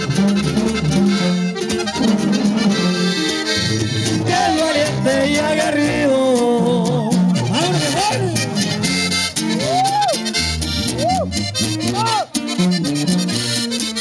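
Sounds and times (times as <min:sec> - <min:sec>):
accordion melody: 0:00.0 - 0:14.0
strummed guitar: 0:00.0 - 0:14.0
tuba bass notes: 0:00.0 - 0:14.0.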